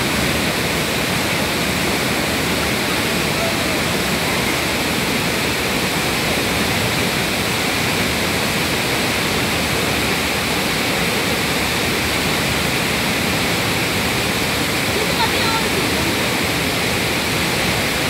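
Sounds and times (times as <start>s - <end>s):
fast river flowing: 0.0s - 18.0s
waterfall rushing: 0.0s - 18.0s.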